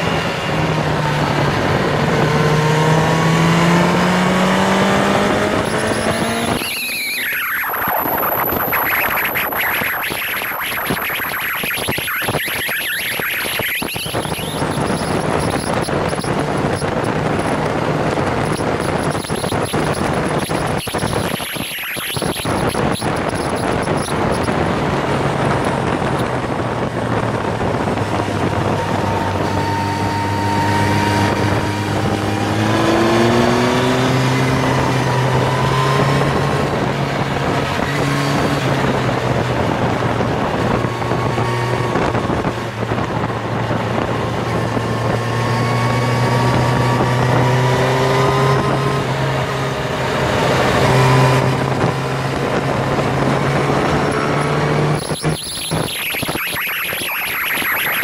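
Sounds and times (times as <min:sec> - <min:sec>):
motorcycle engine accelerating: 0:00.0 - 0:58.0
wind noise on microphone: 0:07.5 - 0:58.0.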